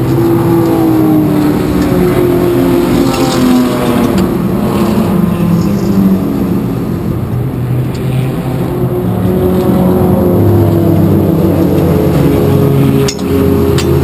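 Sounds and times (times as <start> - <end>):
race car engine running at low revs: 0.0 - 14.0.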